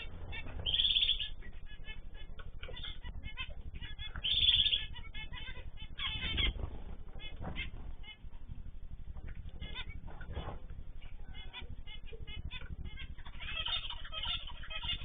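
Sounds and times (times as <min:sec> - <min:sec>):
flock of small birds chirping: 0:00.0 - 0:15.0.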